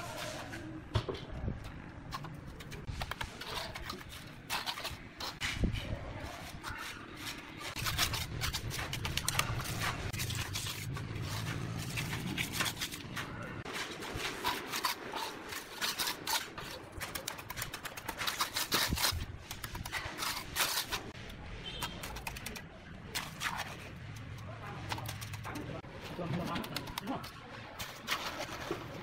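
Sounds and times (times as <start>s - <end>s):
trowel scraping wet concrete: 2.1s - 29.0s.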